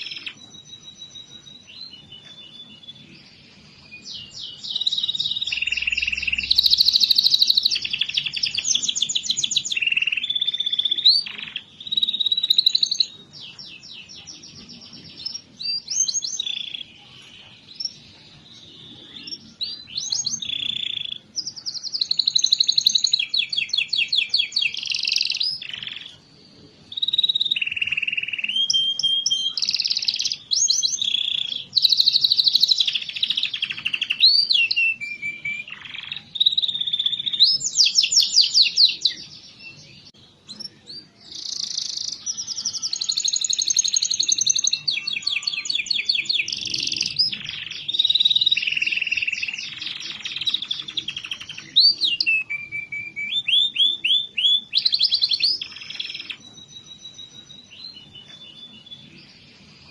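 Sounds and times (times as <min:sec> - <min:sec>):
canary song trills: 0:00.0 - 0:59.9.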